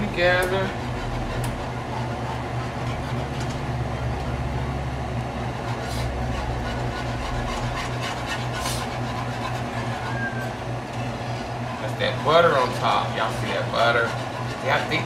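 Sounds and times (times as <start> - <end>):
low hum: 0.0 - 14.6
whisk stirring sauce in skillet: 0.1 - 4.6, 5.5 - 10.4, 11.0 - 15.0.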